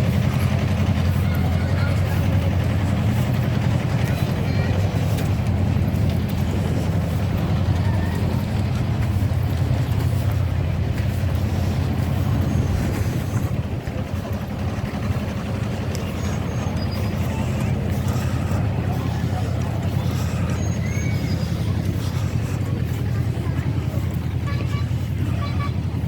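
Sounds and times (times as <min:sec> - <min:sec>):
locomotive engine humming: 0:00.0 - 0:26.0.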